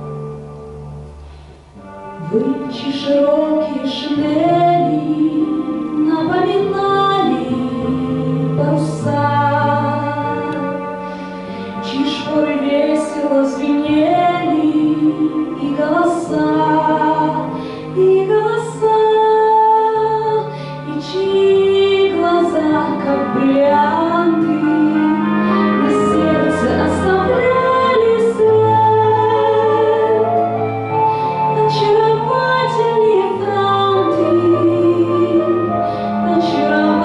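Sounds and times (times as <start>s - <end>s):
instrumental accompaniment: 0.0s - 37.0s
woman singing with vibrato: 2.1s - 10.9s, 11.8s - 30.4s, 31.4s - 37.0s.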